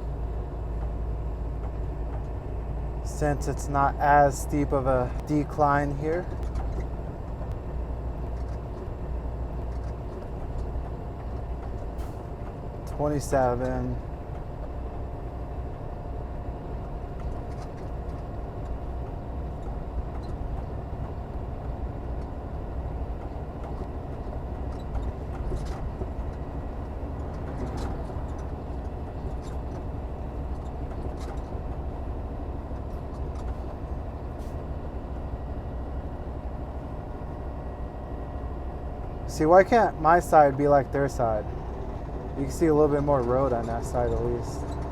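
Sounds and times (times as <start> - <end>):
diesel truck engine running: 0.0 - 44.9
road noise: 0.0 - 44.9.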